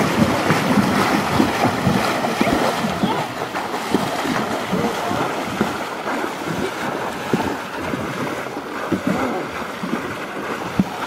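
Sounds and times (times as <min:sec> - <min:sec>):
rushing water: 0:00.0 - 0:11.0
splashing footsteps in water: 0:00.0 - 0:11.0.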